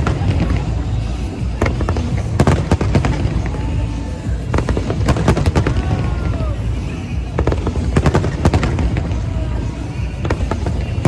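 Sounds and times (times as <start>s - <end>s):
fireworks cracks and bangs: 0.0s - 11.0s.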